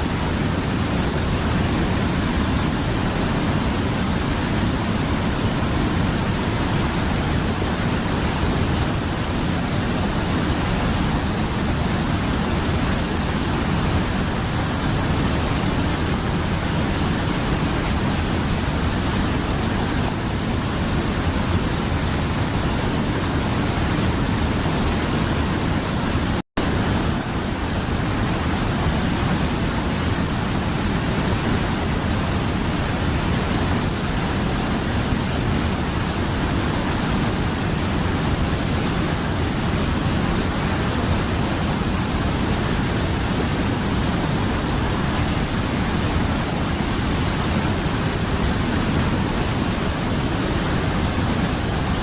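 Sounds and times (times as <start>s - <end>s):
river water rushing: 0.0s - 52.0s.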